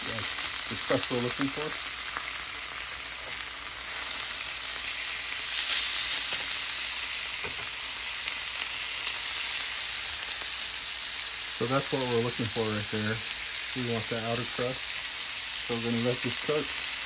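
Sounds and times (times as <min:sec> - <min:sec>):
chicken sizzling in pan: 0:00.0 - 0:17.0.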